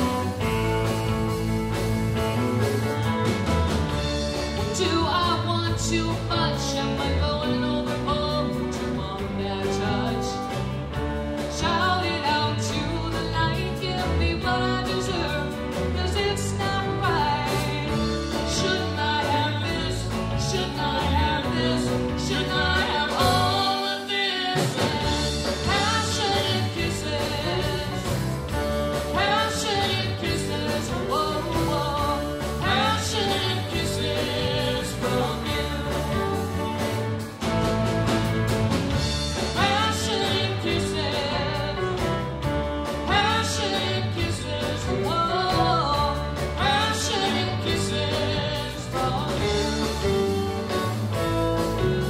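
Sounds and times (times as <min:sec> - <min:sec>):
live band playing: 0:00.0 - 0:52.0
woman singing: 0:04.4 - 0:10.7, 0:11.4 - 0:37.0, 0:39.4 - 0:51.0.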